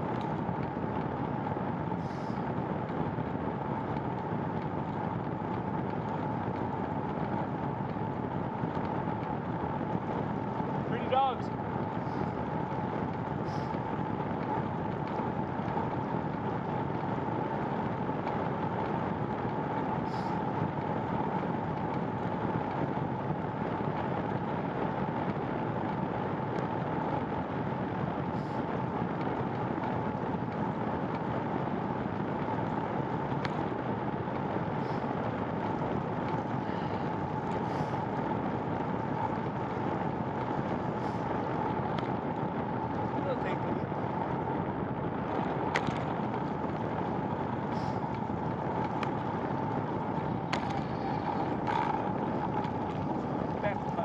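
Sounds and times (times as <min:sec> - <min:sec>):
bicycle road and wind noise: 0:00.0 - 0:54.0
steady hum: 0:00.0 - 0:54.0.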